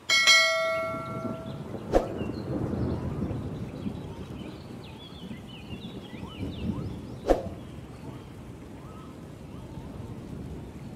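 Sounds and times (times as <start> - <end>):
small birds chirping: 1.1 - 10.9.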